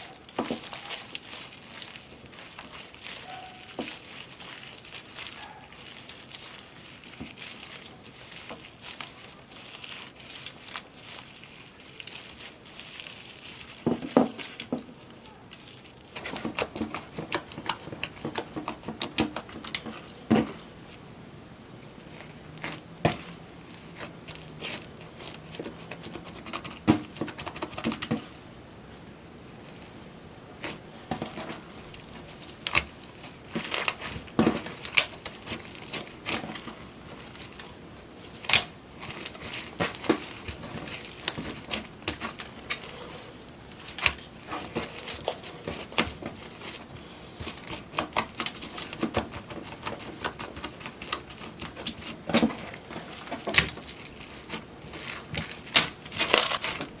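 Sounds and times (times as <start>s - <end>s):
slime crackling and popping: 0.0s - 21.0s, 21.8s - 57.0s.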